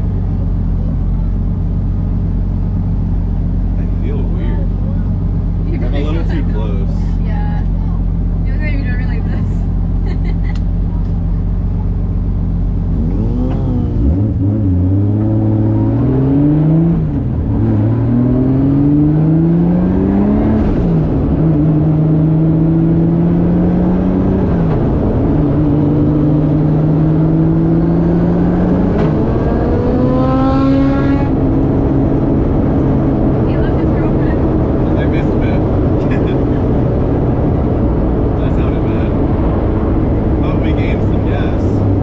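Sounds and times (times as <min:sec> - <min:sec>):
car engine accelerating through gears: 0:00.0 - 0:42.0.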